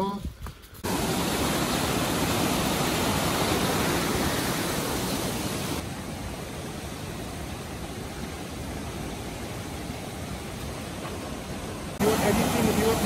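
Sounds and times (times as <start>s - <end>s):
river rushing over rapids: 0.8s - 13.0s.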